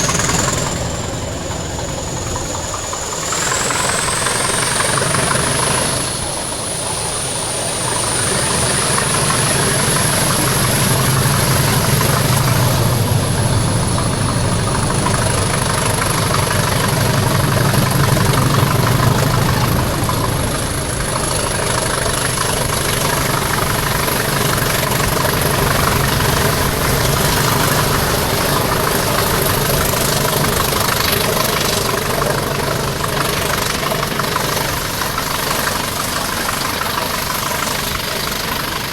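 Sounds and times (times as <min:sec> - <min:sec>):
diesel locomotive engine running: 0:00.0 - 0:38.9.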